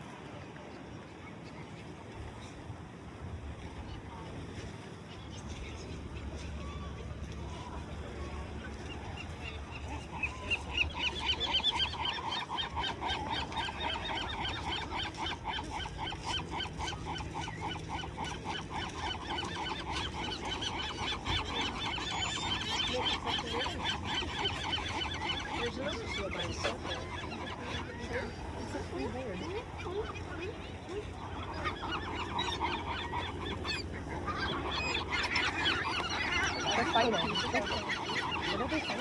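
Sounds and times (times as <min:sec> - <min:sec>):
seabirds honking chorus: 0:06.1 - 0:39.0.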